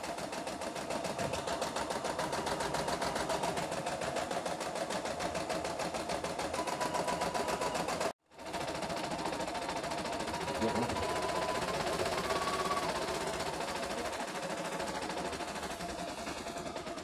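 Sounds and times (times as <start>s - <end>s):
steady motor hum: 0.0s - 17.0s.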